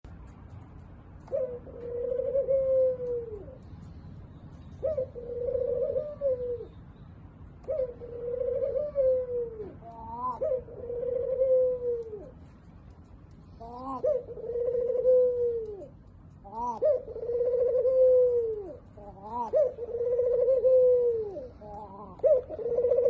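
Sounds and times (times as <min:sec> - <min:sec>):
dove cooing: 0:01.2 - 0:03.9, 0:04.5 - 0:06.8, 0:07.6 - 0:12.5, 0:13.4 - 0:23.0.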